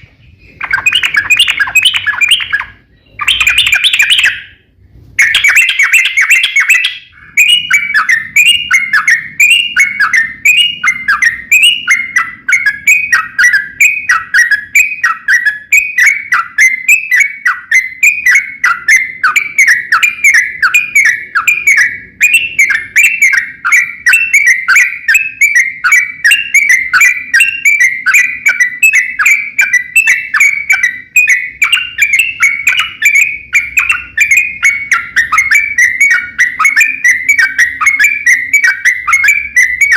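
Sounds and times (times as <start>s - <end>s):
bird singing chattering notes: 0.0s - 4.6s, 5.2s - 39.9s.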